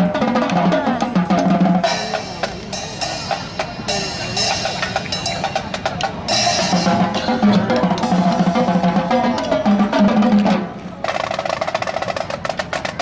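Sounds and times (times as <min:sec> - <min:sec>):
sustained band chords: 0:00.0 - 0:10.8
dense rapid drum patter: 0:00.0 - 0:13.0
snare and bass drums: 0:00.0 - 0:13.0.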